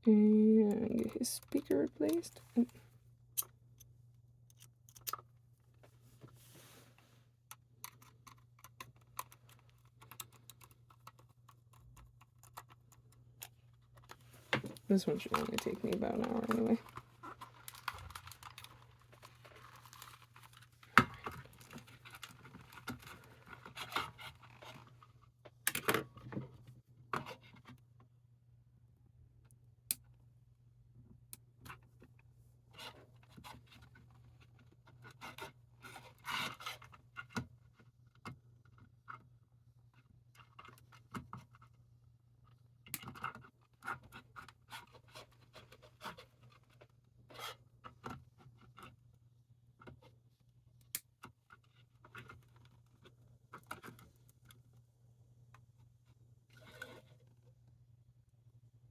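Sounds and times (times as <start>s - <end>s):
small clicks and scratching of hands: 0.5s - 6.4s, 7.0s - 28.1s, 31.3s - 41.8s, 42.4s - 54.8s.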